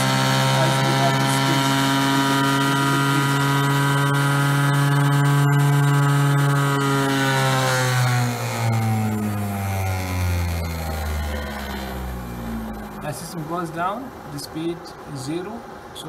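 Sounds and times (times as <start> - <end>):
electric motor high whine: 0.0 - 13.6.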